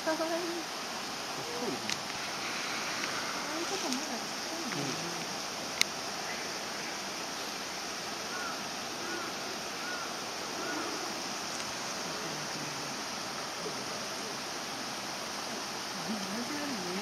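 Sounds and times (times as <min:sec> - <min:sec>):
faint distant voices: 0:00.0 - 0:07.1, 0:08.3 - 0:17.0
steady rushing noise: 0:00.0 - 0:15.9.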